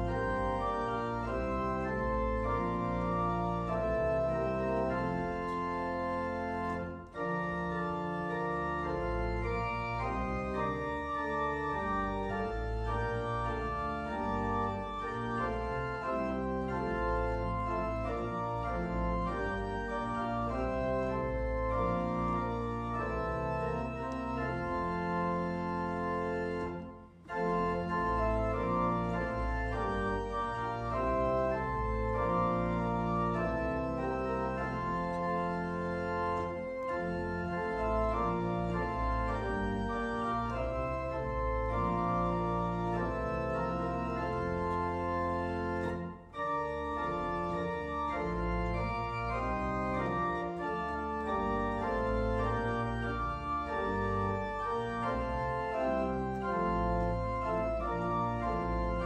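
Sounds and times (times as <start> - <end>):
organ playing a hymn: 0.0 - 59.0.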